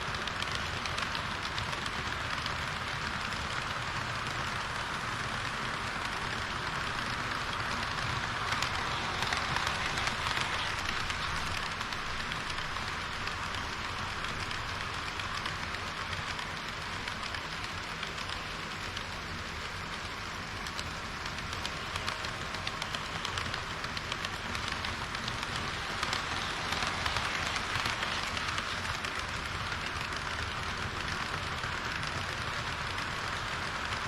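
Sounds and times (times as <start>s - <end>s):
model train wheels rattling on rails: 0.0s - 34.0s.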